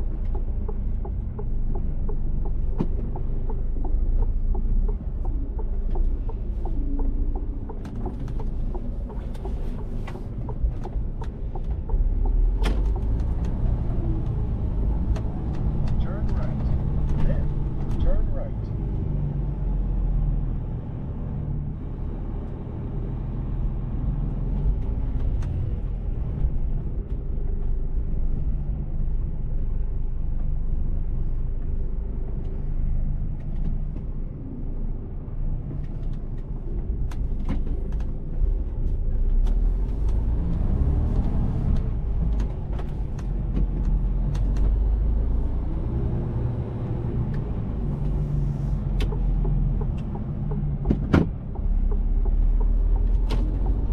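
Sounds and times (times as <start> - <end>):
road rumble: 0.0 - 53.9.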